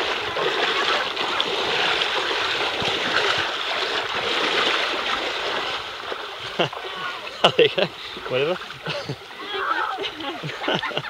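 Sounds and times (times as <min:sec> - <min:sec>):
muddy water sloshing: 0:00.0 - 0:11.0.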